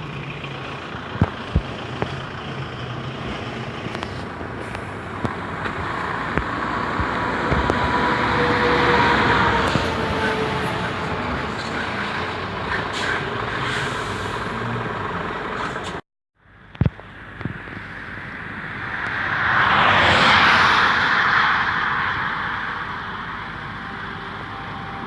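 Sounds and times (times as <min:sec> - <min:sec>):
heavy truck passing: 0:00.0 - 0:16.0, 0:18.0 - 0:25.0
road traffic passing: 0:00.0 - 0:25.0.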